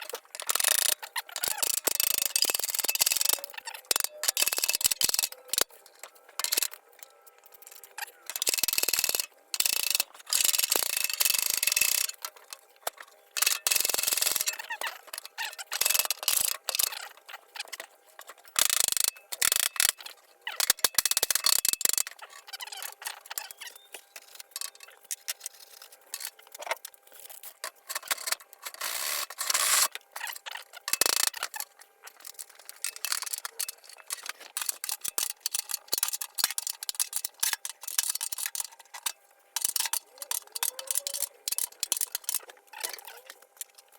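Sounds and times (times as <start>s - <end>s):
metal clicks and clanks: 0.0s - 26.9s, 27.6s - 43.8s.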